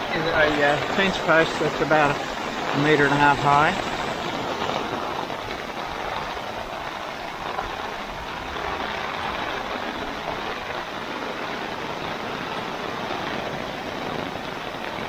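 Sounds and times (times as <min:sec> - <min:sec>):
floodwater rushing through creek: 0:00.0 - 0:15.0
heavy rain drumming on umbrella: 0:00.0 - 0:15.0.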